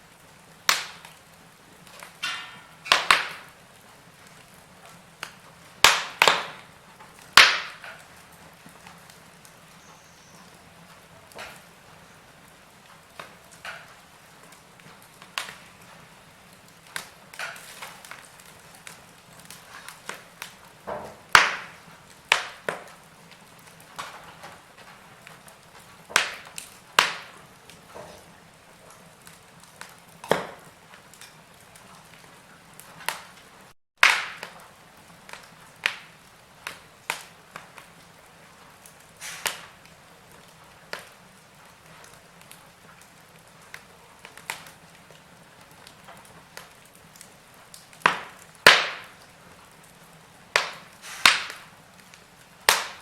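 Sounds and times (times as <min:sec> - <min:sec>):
faint steady hiss: 0:00.0 - 0:53.0
wood fire popping and snapping: 0:00.0 - 0:53.0.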